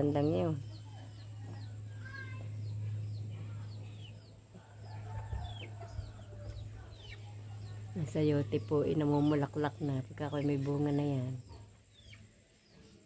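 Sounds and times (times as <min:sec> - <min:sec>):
chickens clucking: 0:00.0 - 0:13.0
steady low hum: 0:00.0 - 0:13.0.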